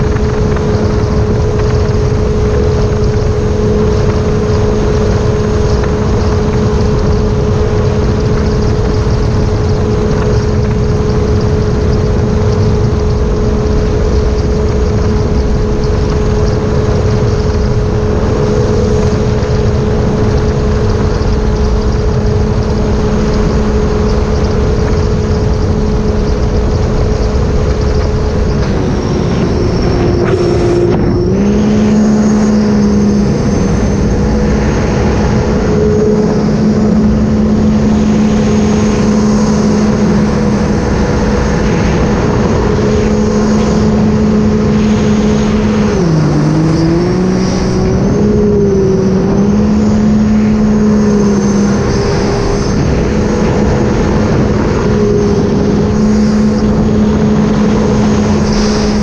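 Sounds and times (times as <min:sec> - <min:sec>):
personal watercraft engine running: 0:00.0 - 0:59.0.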